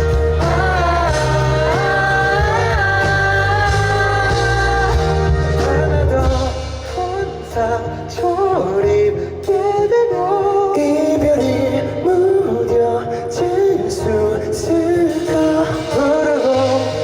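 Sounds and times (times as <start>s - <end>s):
instrumental accompaniment: 0.0s - 17.0s
person singing pop ballad: 0.0s - 17.0s.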